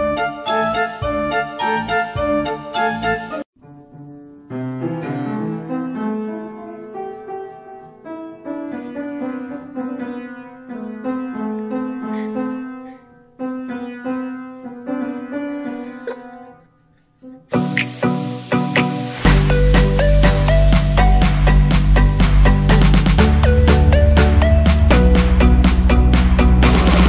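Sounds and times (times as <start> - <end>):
piano notes and chords: 0.0 - 16.7, 17.4 - 27.0.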